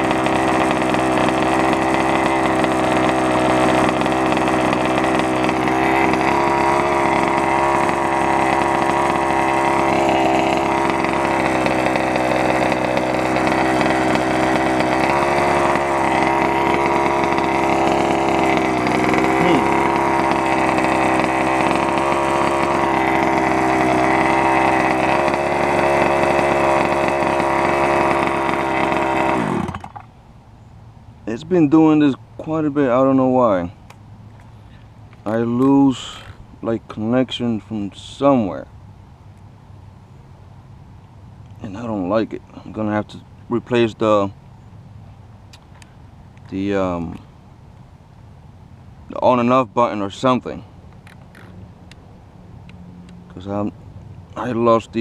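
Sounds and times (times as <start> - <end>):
small two-stroke engine running: 0.0 - 30.2, 31.2 - 40.8, 41.4 - 44.4, 45.5 - 47.4, 49.1 - 52.0, 52.6 - 55.0.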